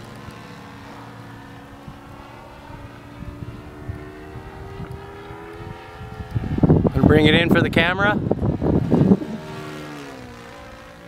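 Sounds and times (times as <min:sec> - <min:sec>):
model airplane engine drone: 0:00.0 - 0:11.0.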